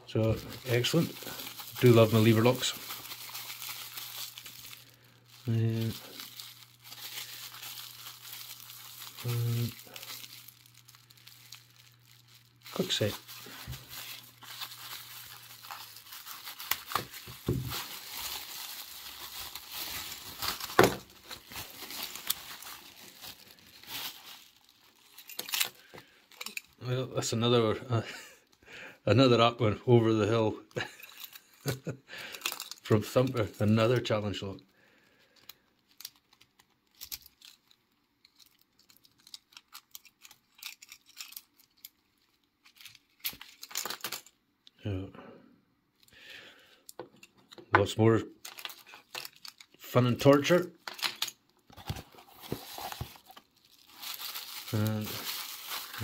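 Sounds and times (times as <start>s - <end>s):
bubble wrap crackling: 0.1s - 26.9s, 30.8s - 34.5s, 35.1s - 44.3s, 48.4s - 50.6s, 51.6s - 56.0s.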